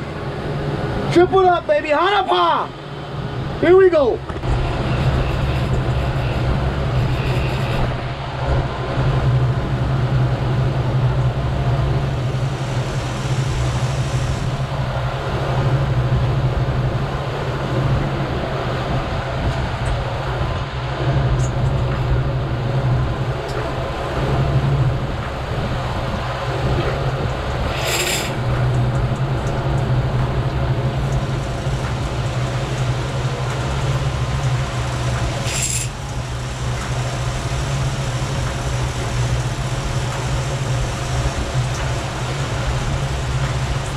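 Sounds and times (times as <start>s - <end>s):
outboard motors droning: 0.0s - 43.9s
rush of wake water: 0.0s - 43.9s.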